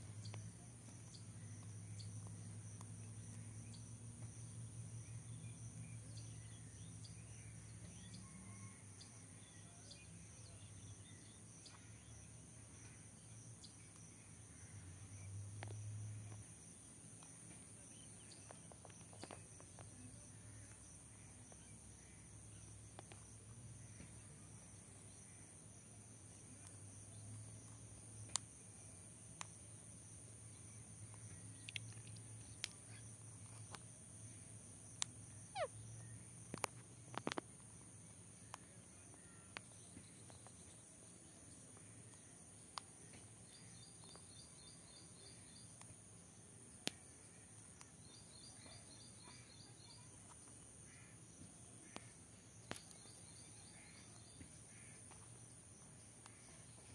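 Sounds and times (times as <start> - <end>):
rapid insect chirps: 0.0 - 56.9
high insect drone: 10.8 - 56.9.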